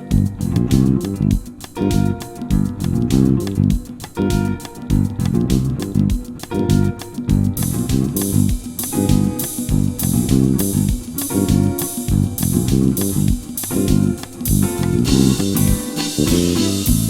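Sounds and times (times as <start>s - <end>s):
bass guitar line: 0.0s - 17.0s
lead guitar playing: 0.0s - 17.0s
sharp percussive hits: 0.0s - 17.0s.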